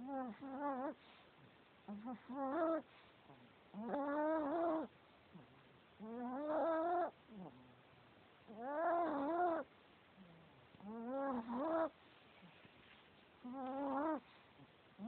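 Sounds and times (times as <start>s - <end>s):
small dog snoring: 0.0s - 1.2s, 1.8s - 7.8s, 8.4s - 12.0s, 13.4s - 15.0s.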